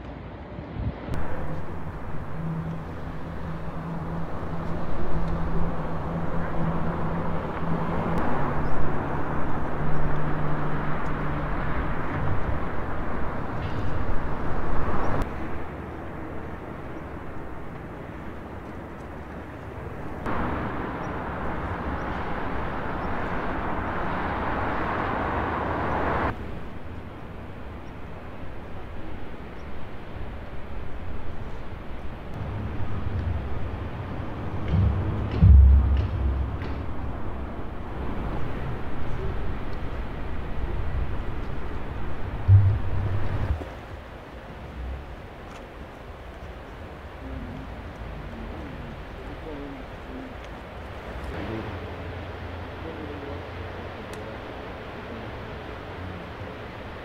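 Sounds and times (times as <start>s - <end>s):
steady rushing noise: 0.0s - 57.0s
low hum: 1.1s - 57.0s.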